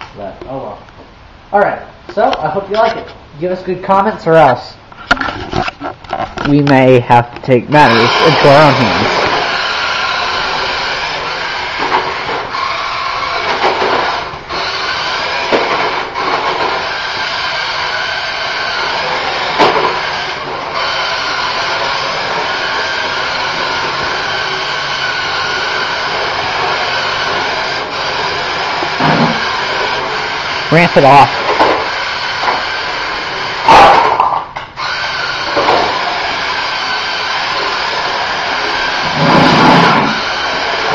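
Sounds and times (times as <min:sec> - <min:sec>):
toy car motor whining: 0:07.7 - 0:40.9.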